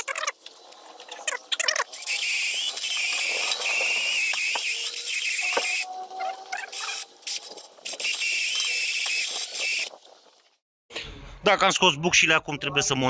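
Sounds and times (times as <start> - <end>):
wire brush whining and scraping: 0.0 - 10.6.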